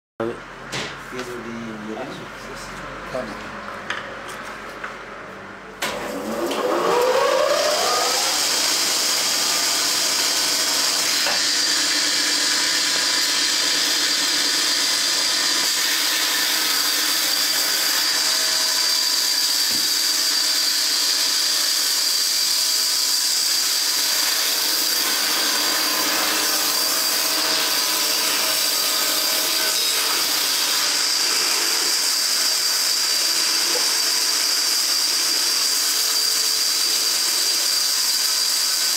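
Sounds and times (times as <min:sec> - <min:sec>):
band saw whining: 0:05.8 - 0:38.9.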